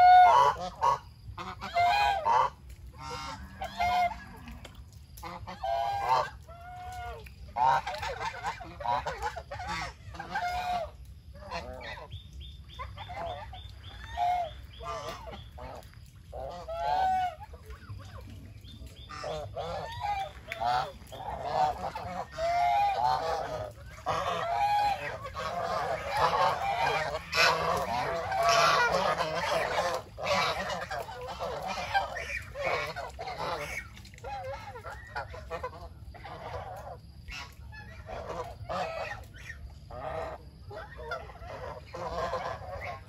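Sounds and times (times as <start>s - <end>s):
geese honking: 0.0s - 43.0s.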